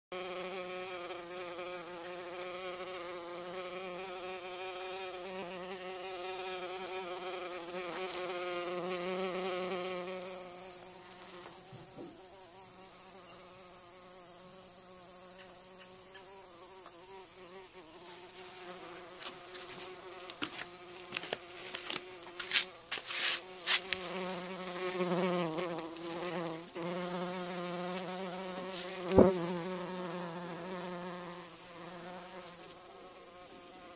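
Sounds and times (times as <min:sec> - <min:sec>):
bumblebee buzzing: 0:00.1 - 0:33.9.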